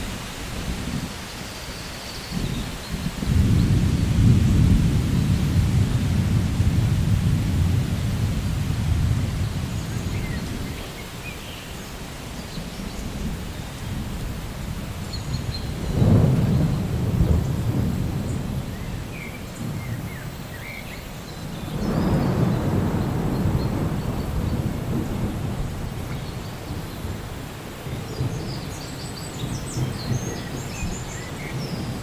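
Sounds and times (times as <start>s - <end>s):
steady rain: 0.0s - 32.0s
rolling thunder rumbles: 2.3s - 10.9s, 12.6s - 20.7s, 21.3s - 32.0s.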